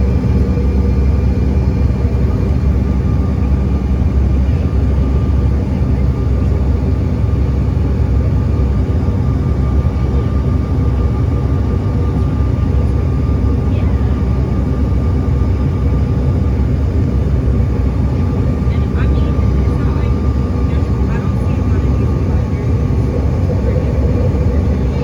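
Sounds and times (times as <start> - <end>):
jet engine drone in cabin: 0.0 - 25.0.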